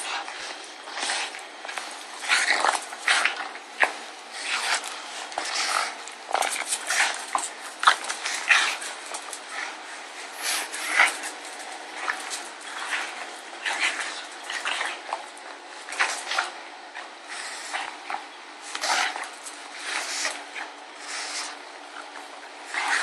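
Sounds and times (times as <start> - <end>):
dog growling: 0.0 - 23.0.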